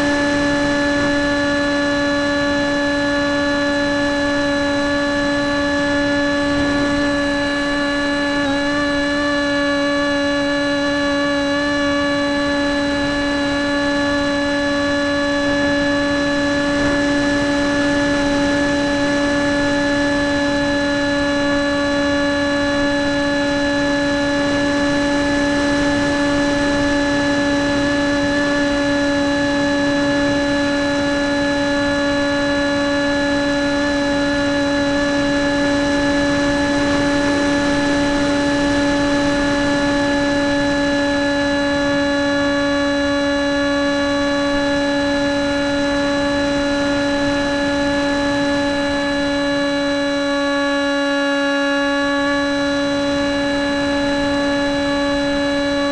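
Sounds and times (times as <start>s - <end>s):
model aircraft motor running: 0.0s - 55.9s.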